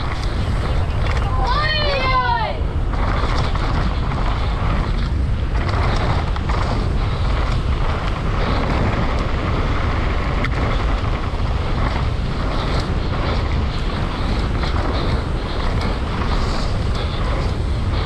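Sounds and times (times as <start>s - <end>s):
tyres rolling over gravel: 0.0s - 18.0s
wind rushing over microphone: 0.0s - 18.0s
bike knocks and rattles: 2.7s - 18.0s.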